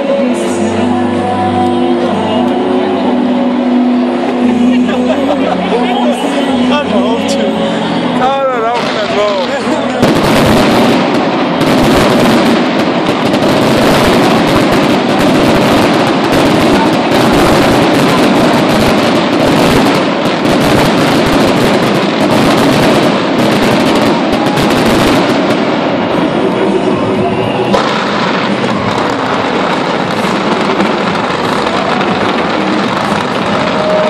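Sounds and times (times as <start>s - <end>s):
fireworks crackling bangs: 2.4s - 34.0s.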